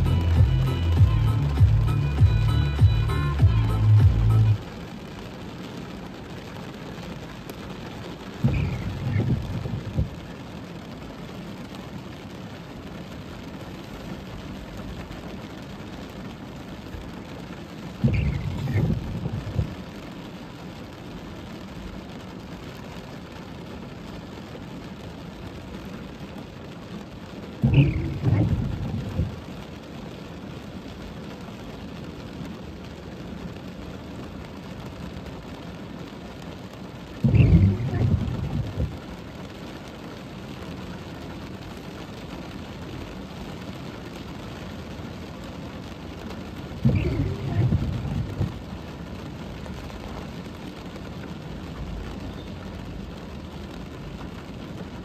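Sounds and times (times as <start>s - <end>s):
wiper low rumble: 0.0s - 24.0s, 26.0s - 55.0s
heavy rain on a car roof: 0.0s - 55.0s.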